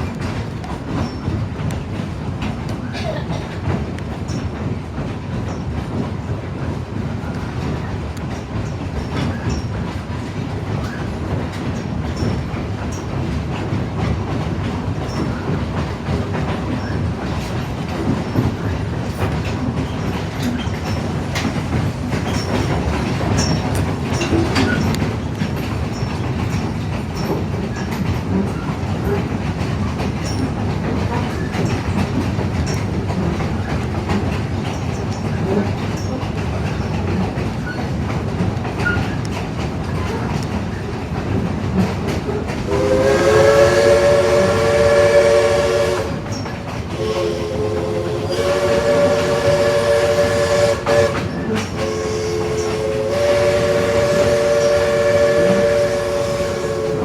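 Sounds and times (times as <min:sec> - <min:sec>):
train rumbling along track: 0:00.0 - 0:57.0
wheels clacking over rails: 0:00.0 - 0:57.0.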